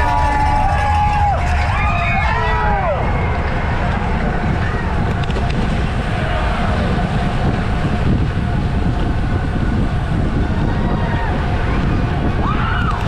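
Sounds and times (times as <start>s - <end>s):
distant voices: 0.0s - 13.0s
wind on microphone: 0.0s - 13.0s.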